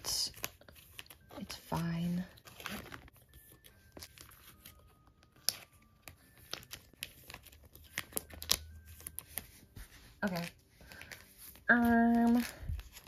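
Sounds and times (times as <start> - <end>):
plastic sleeves crinkling: 0.0 - 13.0.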